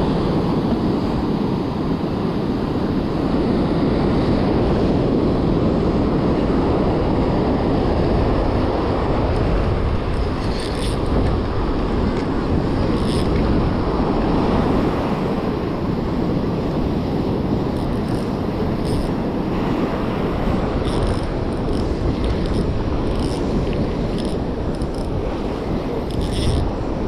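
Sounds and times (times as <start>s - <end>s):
surf breaking on shore: 0.0s - 27.0s
wind rumble on microphone: 0.0s - 27.0s.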